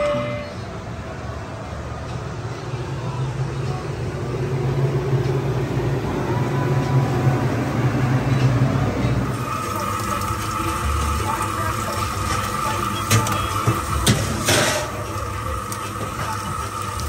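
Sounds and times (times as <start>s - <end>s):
fans whirring: 0.0s - 17.0s
refrigeration unit humming: 0.0s - 17.0s.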